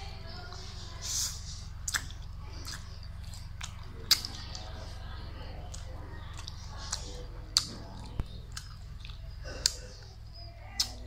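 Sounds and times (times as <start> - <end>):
steady low hum: 0.0 - 11.0
chewing crispy food: 0.2 - 11.0.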